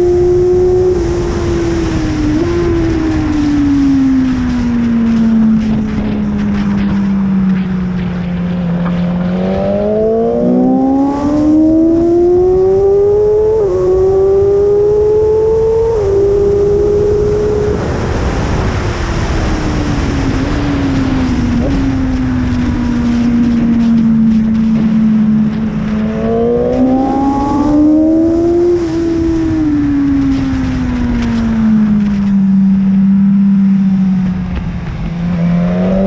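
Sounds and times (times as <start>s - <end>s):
motorcycle engine revving: 0.0s - 36.0s
wind noise: 0.0s - 36.0s.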